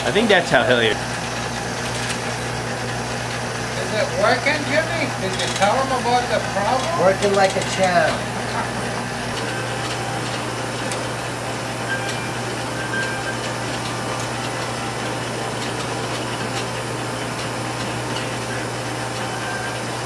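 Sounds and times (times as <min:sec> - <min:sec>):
motor hum: 0:00.0 - 0:20.0
chocolate rushing through machine: 0:00.1 - 0:20.0.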